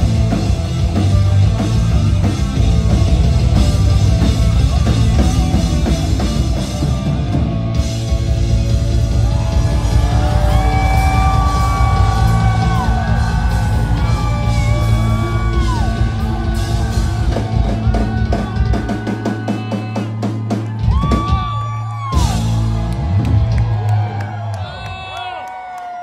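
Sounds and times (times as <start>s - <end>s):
drum and cymbal hits: 0.0s - 23.6s
live rock band: 0.0s - 25.0s.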